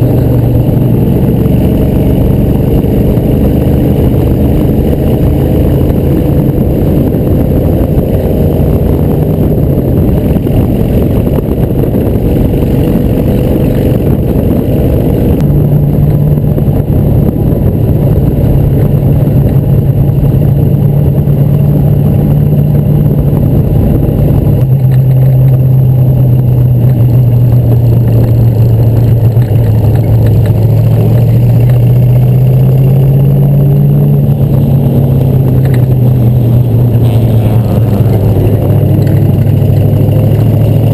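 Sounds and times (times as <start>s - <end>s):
race car engine running: 0.0s - 40.9s.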